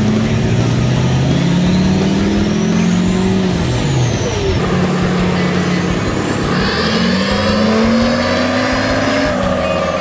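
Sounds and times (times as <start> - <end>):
diesel engine pulling under load: 0.0 - 10.0
high turbo whine: 0.0 - 10.0.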